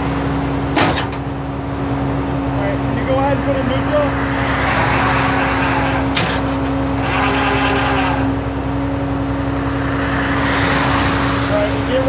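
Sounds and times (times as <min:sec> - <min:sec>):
truck engine and hydraulics whining: 0:00.0 - 0:12.0.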